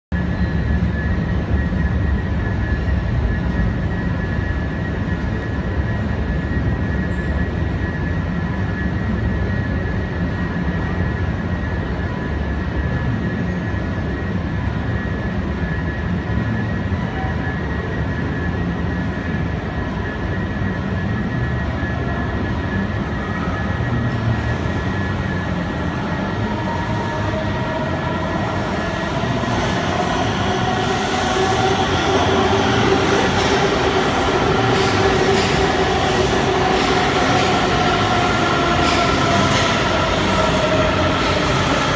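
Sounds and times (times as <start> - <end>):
subway train rumble: 0.1 - 41.9
train whining tones: 0.2 - 41.9.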